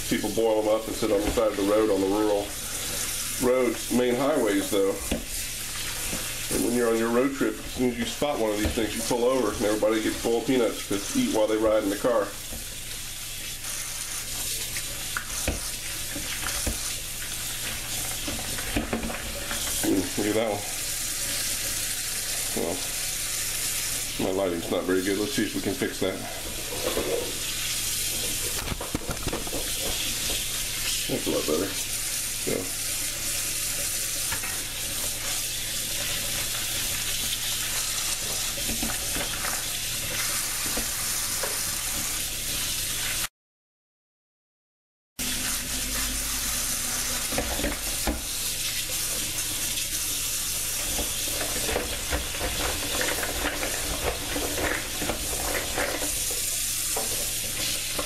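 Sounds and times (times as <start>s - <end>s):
faucet running water: 0.0s - 43.3s, 45.2s - 58.0s.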